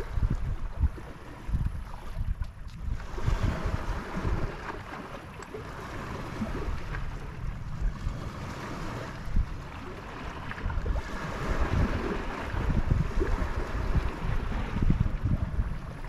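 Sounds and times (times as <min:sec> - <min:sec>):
small lake waves: 0:00.0 - 0:16.0
wind buffeting microphone: 0:00.0 - 0:16.0.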